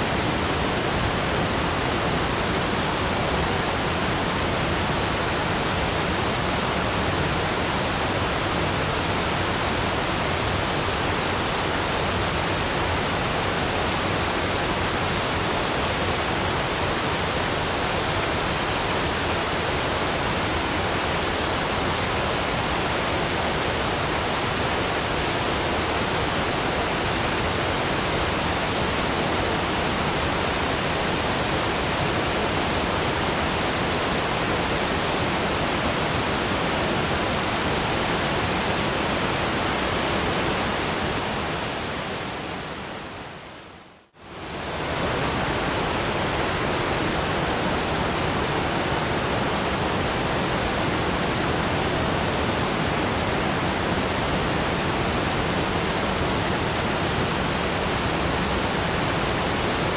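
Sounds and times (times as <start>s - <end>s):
waterfalls rushing: 0.0s - 59.9s.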